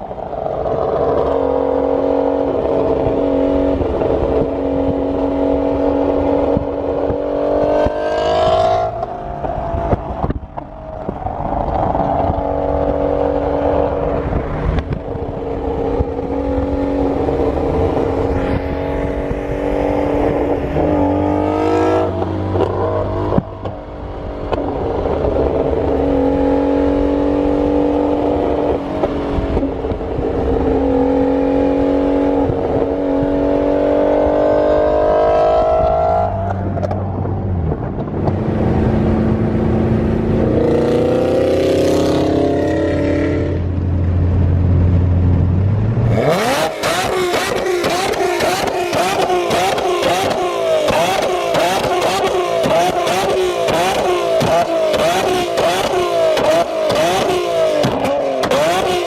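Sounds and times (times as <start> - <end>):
supercar engine revving: 0.1 - 59.0.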